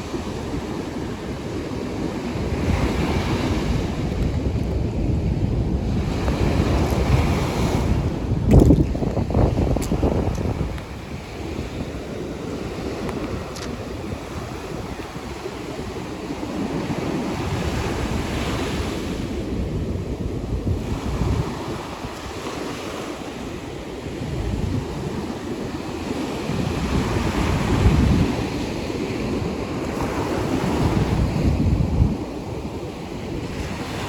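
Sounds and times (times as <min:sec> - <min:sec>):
ocean surf breaking on beach: 0:00.0 - 0:34.0
wind buffeting microphone: 0:00.0 - 0:34.0.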